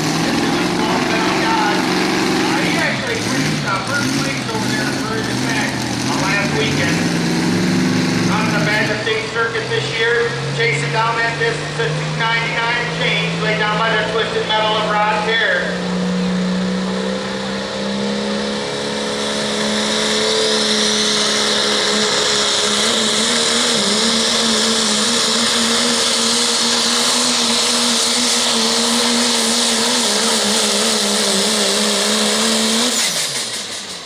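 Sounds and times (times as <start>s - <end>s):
diesel truck engine at high revs: 0.0s - 34.0s.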